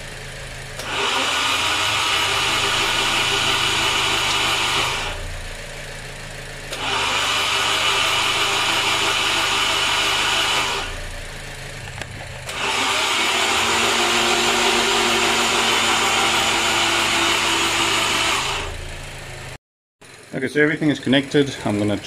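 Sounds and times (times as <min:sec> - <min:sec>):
starter motor cranking engine: 0:00.0 - 0:22.0.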